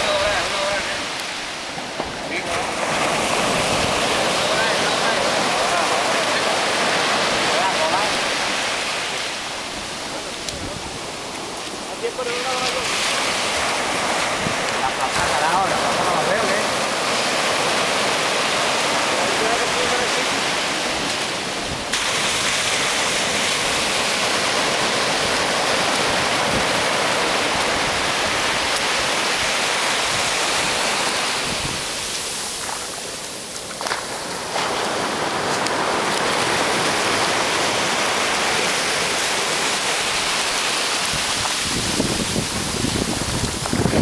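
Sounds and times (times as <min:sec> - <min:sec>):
surf washing up beach: 0:00.0 - 0:44.0.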